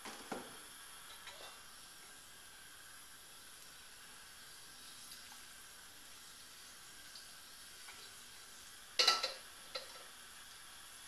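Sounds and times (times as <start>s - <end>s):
oil hissing in a wok: 0.0s - 11.0s.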